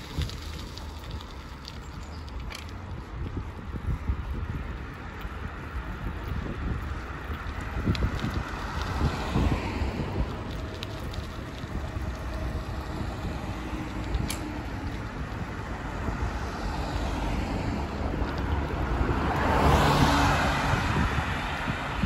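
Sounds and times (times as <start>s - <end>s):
cars passing: 0.0s - 22.0s
wind rumble on microphone: 0.0s - 22.0s.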